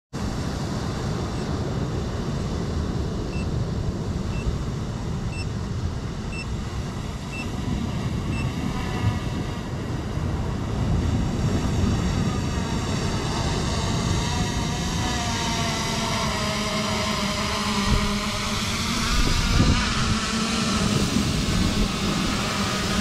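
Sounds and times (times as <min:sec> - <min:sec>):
wind buffeting microphone: 0:00.2 - 0:16.6, 0:17.2 - 0:23.0.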